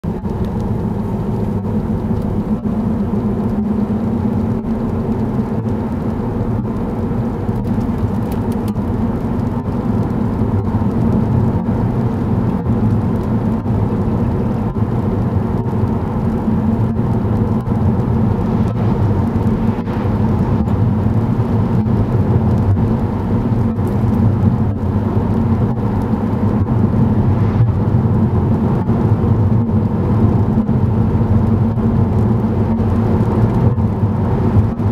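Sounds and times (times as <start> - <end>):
car cabin engine and tyre rumble: 0.0 - 34.9.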